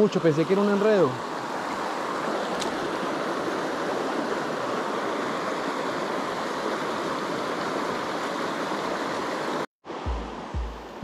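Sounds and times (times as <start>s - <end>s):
stream running water: 0.0s - 11.0s.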